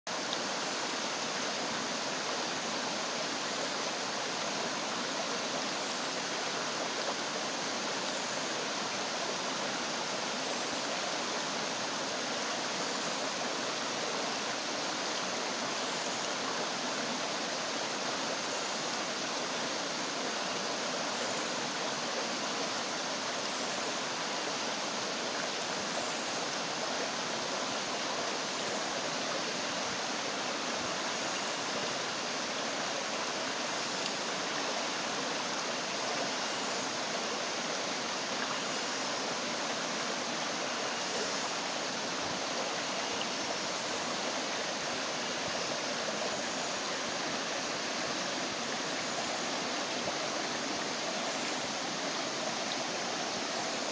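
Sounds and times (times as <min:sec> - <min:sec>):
rocky stream flowing: 0:00.1 - 0:53.9.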